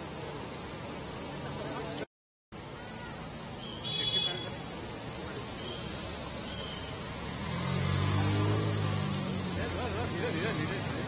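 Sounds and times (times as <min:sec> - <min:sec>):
traffic driving through floodwater: 0:00.0 - 0:11.0.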